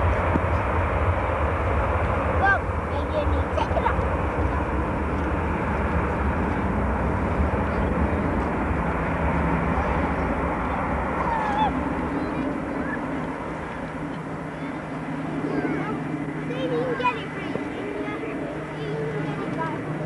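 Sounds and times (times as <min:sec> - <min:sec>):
airliner engine rumble: 0:00.0 - 0:20.0.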